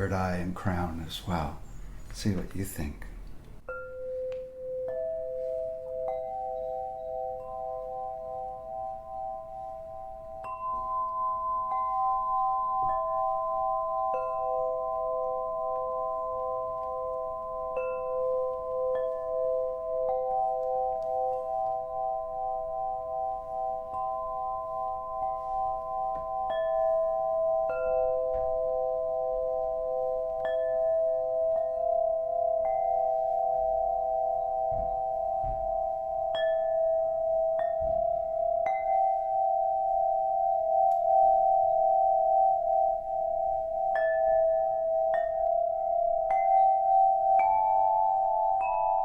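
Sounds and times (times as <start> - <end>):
crystal bowl ringing tones: 3.6 - 49.0.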